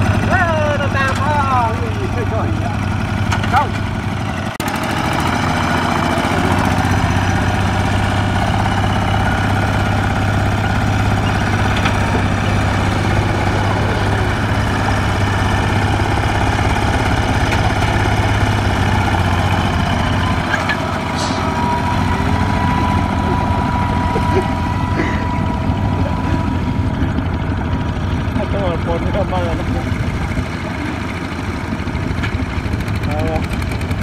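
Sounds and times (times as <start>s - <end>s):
diesel tractor engine running: 0.0s - 34.0s.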